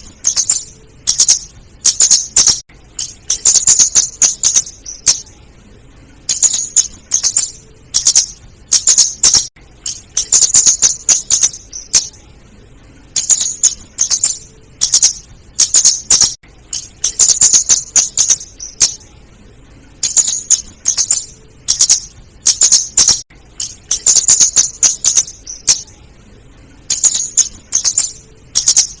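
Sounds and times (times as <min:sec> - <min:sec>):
bird ticking calls: 0:00.0 - 0:05.3, 0:06.3 - 0:12.2, 0:13.2 - 0:19.1, 0:20.0 - 0:26.0, 0:26.9 - 0:29.0.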